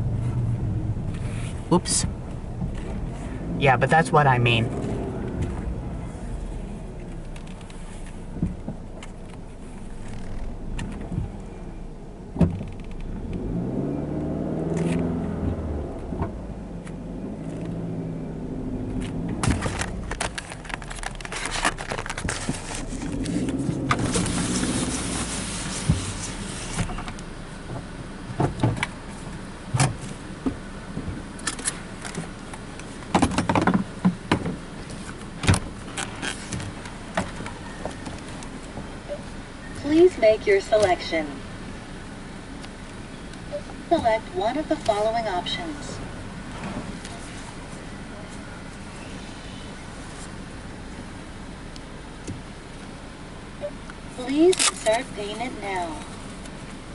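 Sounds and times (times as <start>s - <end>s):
car engine running at low speed: 0.0s - 56.9s.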